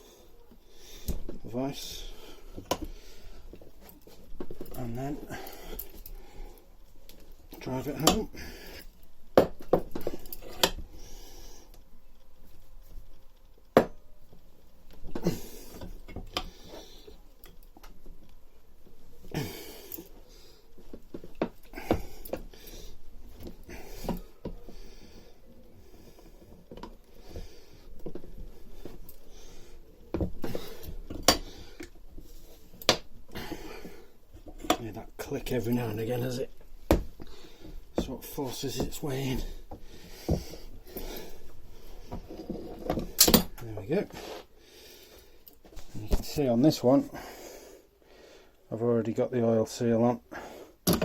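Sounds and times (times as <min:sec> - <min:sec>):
rubbing and handling noise: 0:00.0 - 0:47.1.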